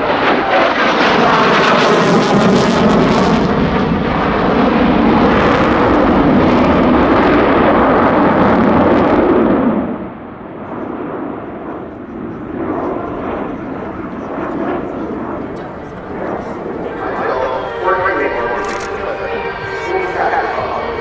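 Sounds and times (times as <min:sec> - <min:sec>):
jet engine passing overhead: 0:00.0 - 0:21.0.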